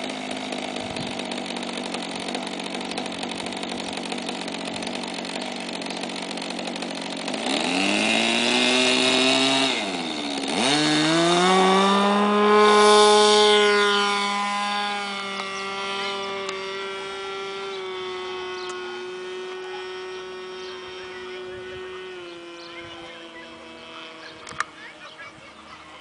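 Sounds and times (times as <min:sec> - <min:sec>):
model plane engine droning: 0:00.0 - 0:26.0.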